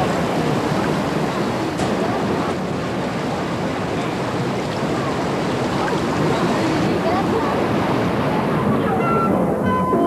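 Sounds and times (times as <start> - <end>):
fast-flowing river rushing: 0.0 - 10.0.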